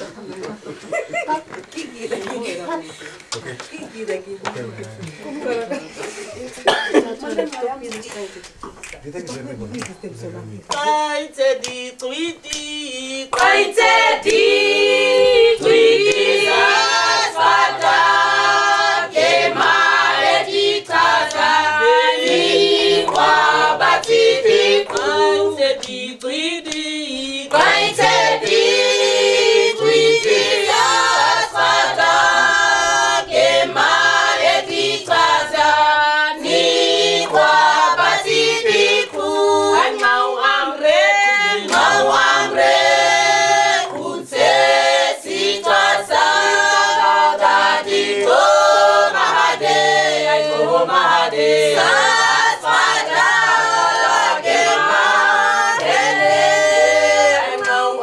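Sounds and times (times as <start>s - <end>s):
group singing a cappella: 0.0s - 3.2s, 10.7s - 58.0s.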